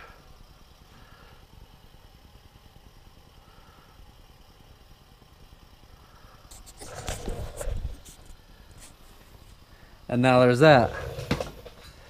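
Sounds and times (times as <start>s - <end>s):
faint whines: 0.0s - 12.0s.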